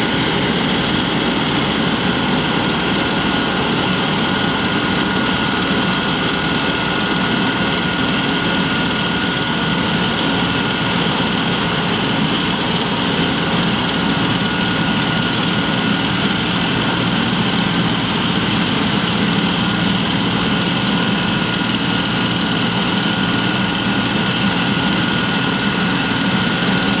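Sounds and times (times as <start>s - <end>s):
diesel machinery engine drone: 0.0s - 27.0s
high machinery whine: 0.0s - 27.0s.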